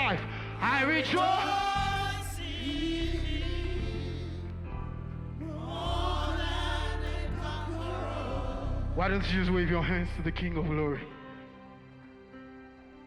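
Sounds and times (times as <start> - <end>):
voices singing: 0.0 - 10.5
gospel band playing: 0.0 - 11.5.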